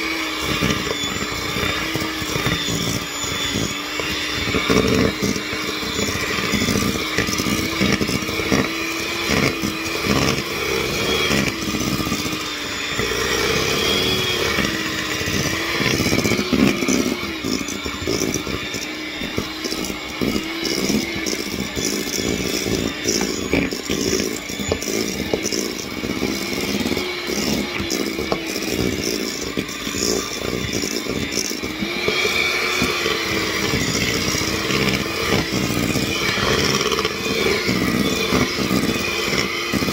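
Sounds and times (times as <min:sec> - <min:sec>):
electric hand mixer running: 0:00.0 - 0:39.9.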